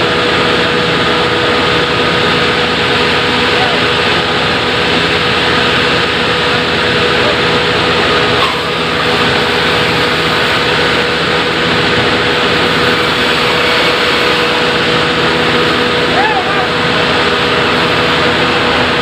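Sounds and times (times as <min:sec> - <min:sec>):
sawmill machinery drone: 0:00.0 - 0:19.0.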